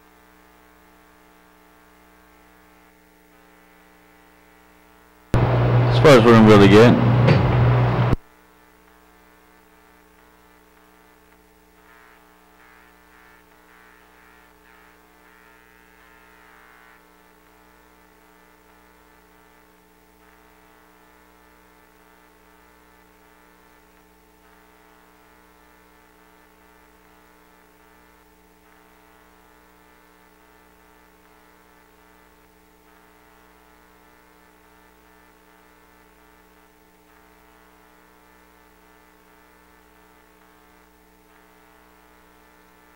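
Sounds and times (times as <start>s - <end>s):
faint electrical hum: 0.0s - 42.9s.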